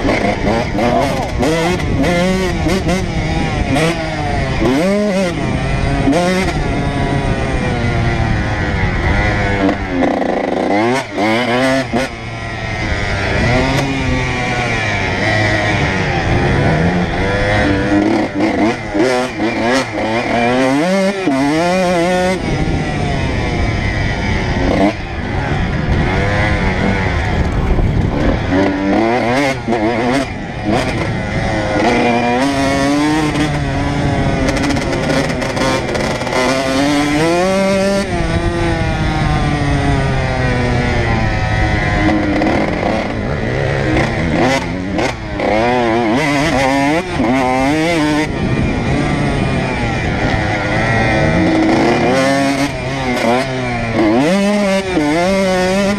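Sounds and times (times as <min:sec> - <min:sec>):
wind on microphone: 0:00.0 - 0:20.6, 0:21.8 - 0:55.9
two-stroke motocross engine revving: 0:00.0 - 0:55.9.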